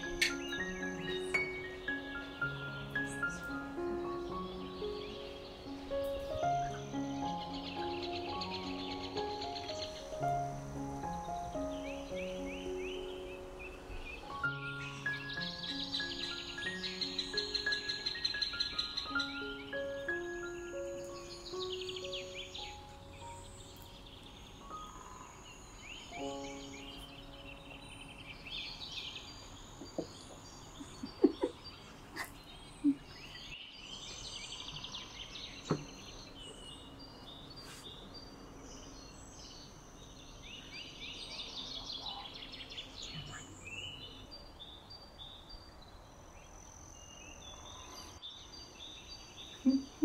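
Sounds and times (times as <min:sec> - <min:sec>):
small birds twittering: 0:00.0 - 0:50.0.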